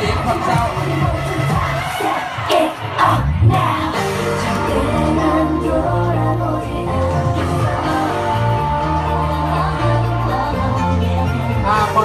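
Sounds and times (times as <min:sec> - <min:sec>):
music with steady bass line: 0:00.0 - 0:12.0.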